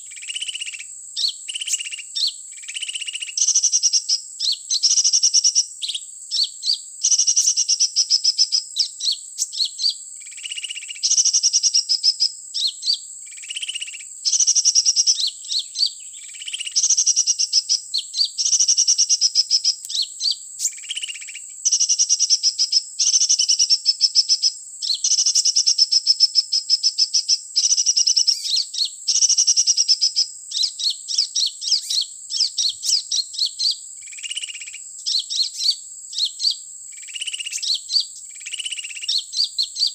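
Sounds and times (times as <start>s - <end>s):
recorded bird twittering: 0.0s - 39.9s.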